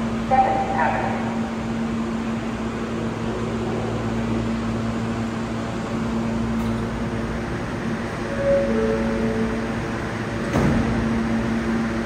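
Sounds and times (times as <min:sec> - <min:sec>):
subway train equipment hum: 0:00.0 - 0:12.0.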